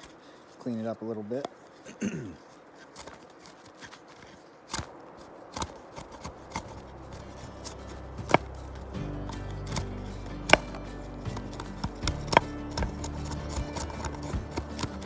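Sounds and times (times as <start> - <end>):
blade chopping wood: 2.8 - 15.0.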